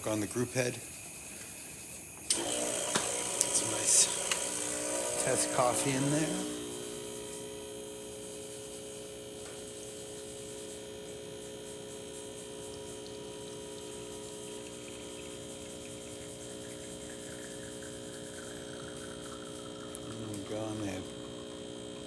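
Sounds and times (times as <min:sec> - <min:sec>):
espresso machine electric hum: 0:00.0 - 0:22.0.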